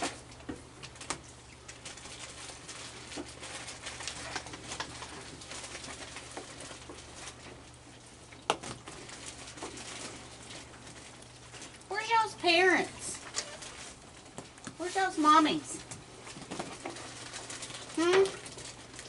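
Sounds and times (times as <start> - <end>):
raccoons crunching food: 0.0 - 19.0.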